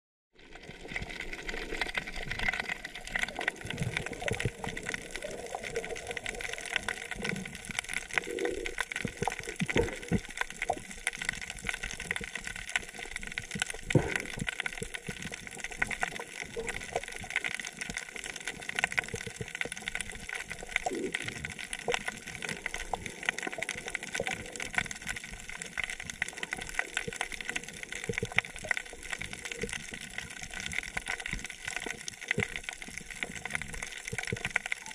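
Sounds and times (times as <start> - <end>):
fine underwater crackling: 0.3 - 34.9
low bubbling gurgles: 0.4 - 34.9.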